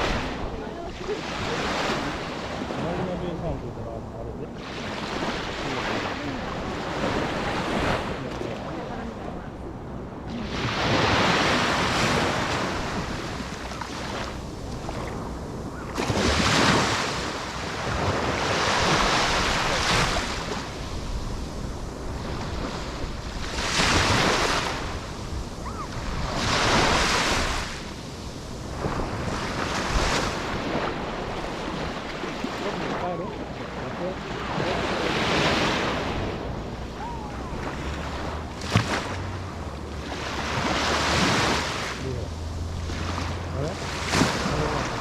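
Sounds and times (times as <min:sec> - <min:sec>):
sea waves breaking on shore: 0:00.0 - 0:45.0
wind rumbling on microphone: 0:00.0 - 0:45.0.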